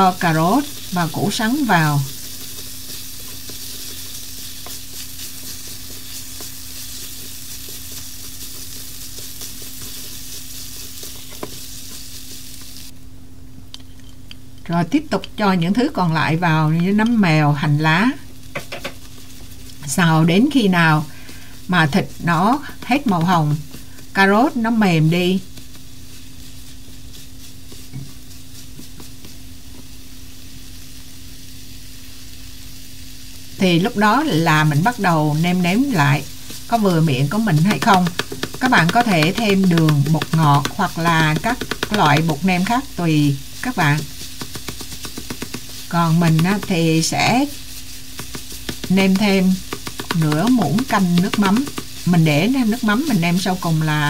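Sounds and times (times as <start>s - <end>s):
chopsticks tapping and scraping pan: 0.0s - 12.8s, 18.4s - 30.0s, 34.3s - 53.9s
meat sizzling in a frying pan: 0.0s - 13.0s, 15.5s - 54.0s.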